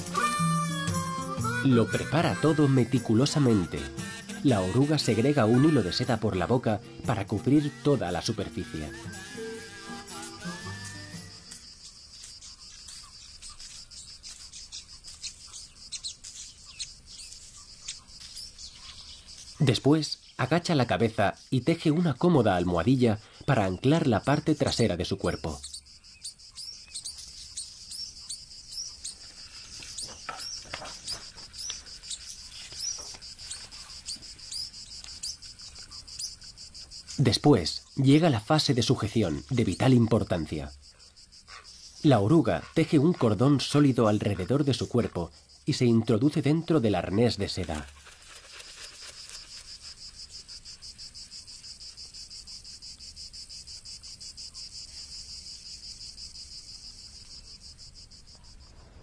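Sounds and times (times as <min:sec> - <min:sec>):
crickets trilling: 0:00.0 - 0:59.0
small birds chirping: 0:00.0 - 0:59.0.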